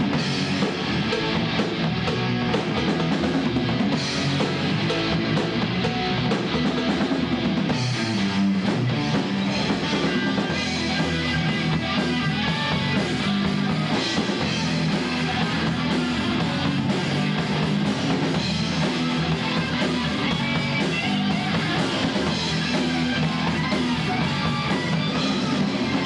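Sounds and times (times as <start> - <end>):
drum kit: 0.0 - 26.0
loud electric guitars: 0.0 - 26.0.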